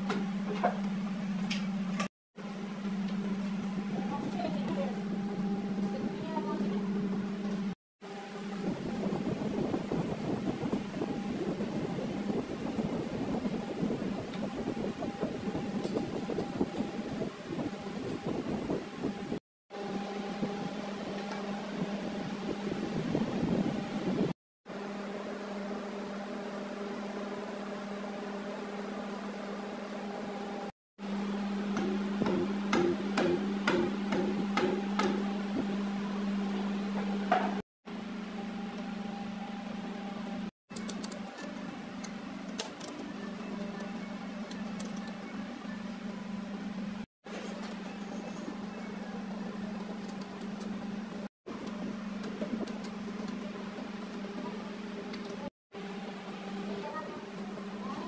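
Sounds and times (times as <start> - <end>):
workshop machinery humming: 0.0 - 58.0.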